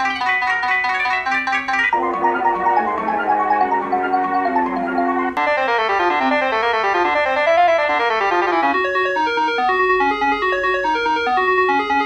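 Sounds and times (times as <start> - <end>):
keyboard instrument playing: 0.0 - 12.0.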